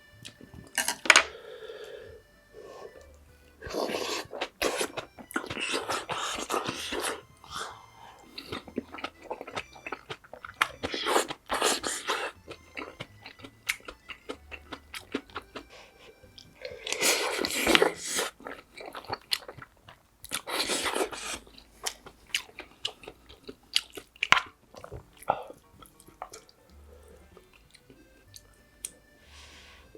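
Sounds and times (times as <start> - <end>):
chewing and biting food: 0.0 - 1.2, 2.8 - 29.1.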